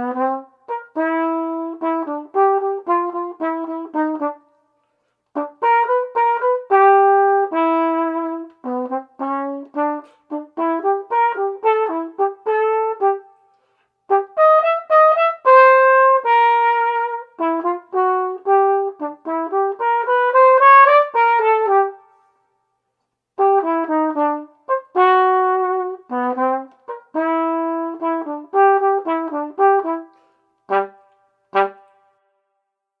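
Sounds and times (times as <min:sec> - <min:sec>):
trumpet playing a solo melody: 0:00.0 - 0:04.6, 0:05.3 - 0:22.3, 0:23.4 - 0:32.4.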